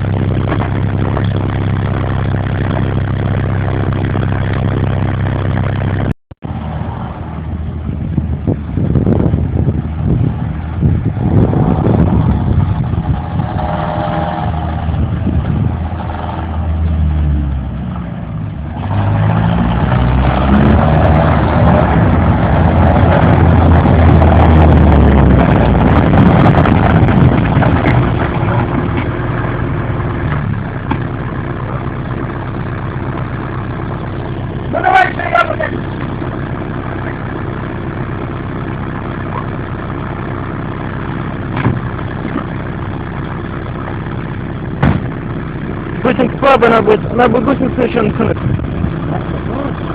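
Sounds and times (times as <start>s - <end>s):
tracked vehicle engine running: 0.0s - 49.9s.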